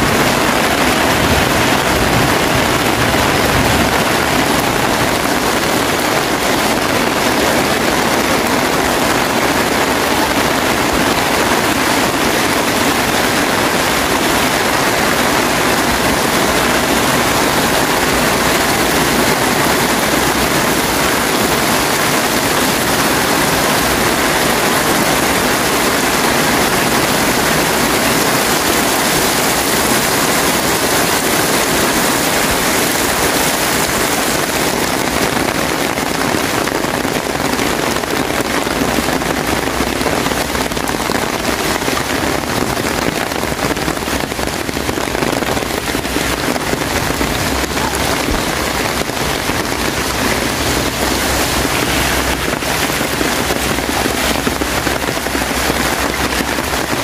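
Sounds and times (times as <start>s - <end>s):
heavy rain on pavement: 0.0s - 57.0s.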